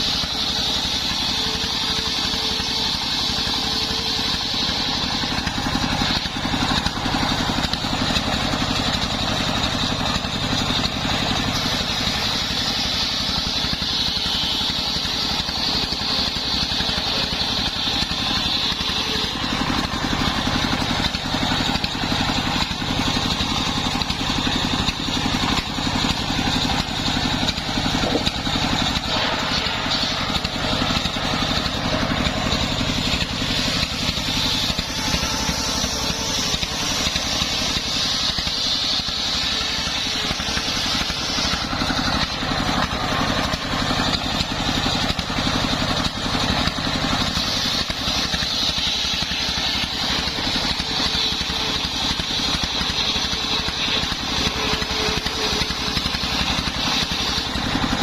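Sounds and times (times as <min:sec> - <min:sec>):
circular saw blade cutting wood: 0:00.0 - 0:58.0
engine running fast pulse: 0:00.0 - 0:58.0.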